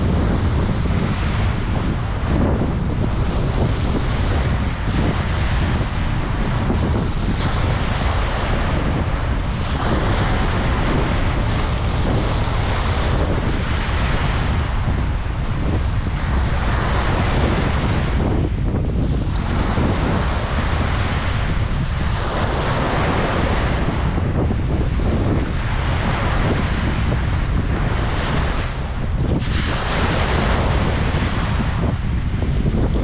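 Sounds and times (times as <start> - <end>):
ocean waves on beach: 0.0 - 33.0
wind buffeting microphone: 0.0 - 33.0.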